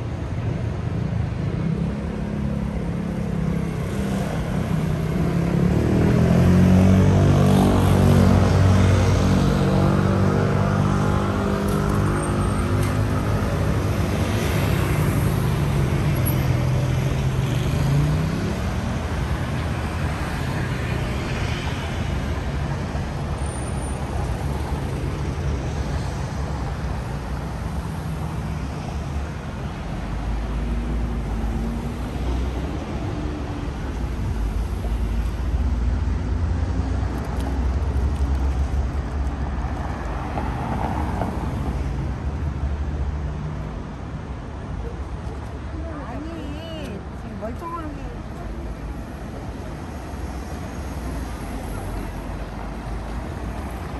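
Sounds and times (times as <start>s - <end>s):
vehicle engines passing: 0.0s - 53.9s.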